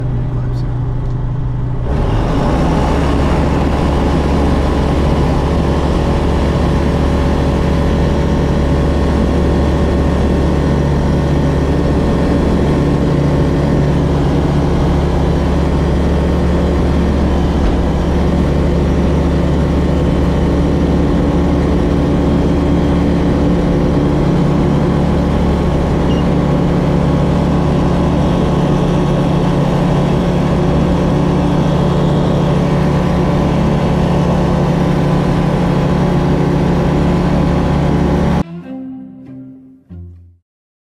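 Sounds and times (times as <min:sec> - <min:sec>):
light aircraft engine droning: 0:00.0 - 0:38.4.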